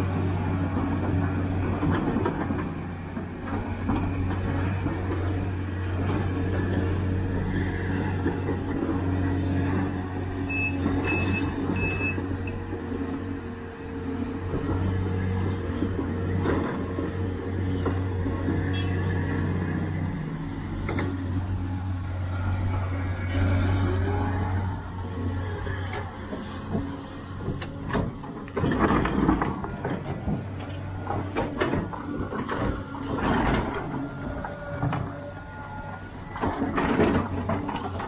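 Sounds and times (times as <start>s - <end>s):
excavator diesel engine drone: 0.0s - 38.0s.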